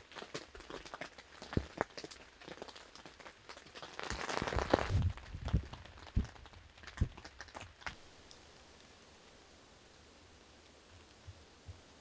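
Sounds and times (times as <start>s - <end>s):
raindrops tapping on tent fabric: 0.0s - 9.4s, 10.6s - 12.0s.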